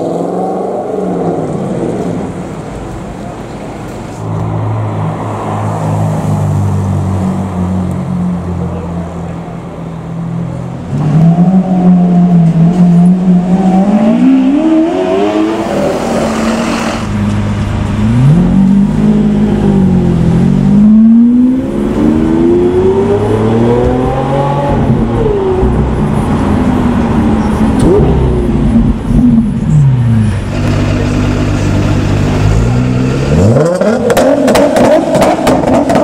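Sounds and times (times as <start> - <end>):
sports car engines revving: 0.0 - 36.0.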